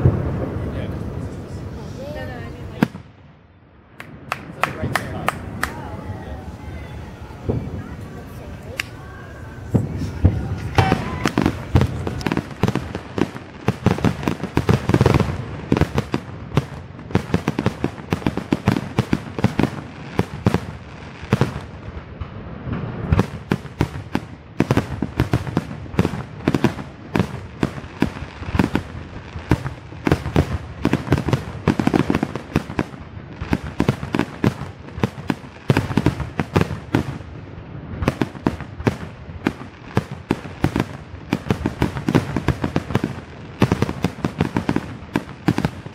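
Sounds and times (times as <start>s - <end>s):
fireworks bursts: 0.0s - 45.9s.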